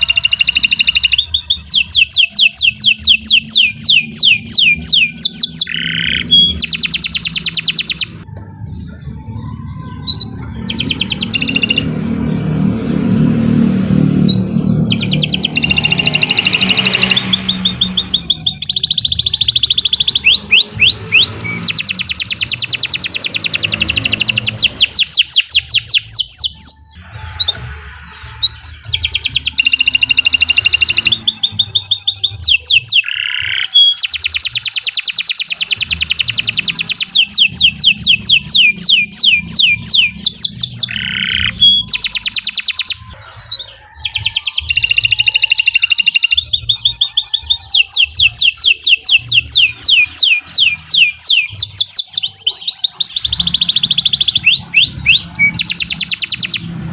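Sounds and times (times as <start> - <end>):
canary singing rapid trills: 0.0 - 56.9.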